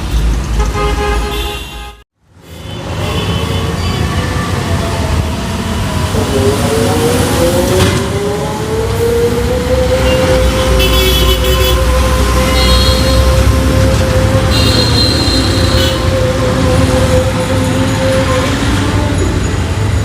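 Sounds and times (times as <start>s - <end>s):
traffic: 0.0s - 20.0s
heavy truck driving by: 2.8s - 20.0s.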